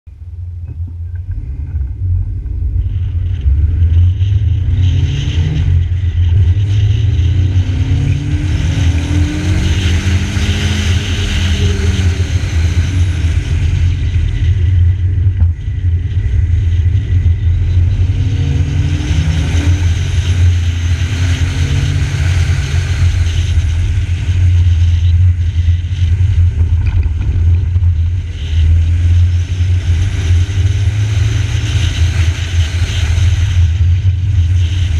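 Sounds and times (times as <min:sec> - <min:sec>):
low wind rumble on microphone: 0:00.1 - 0:34.9
car engine accelerating through gears: 0:00.6 - 0:34.9.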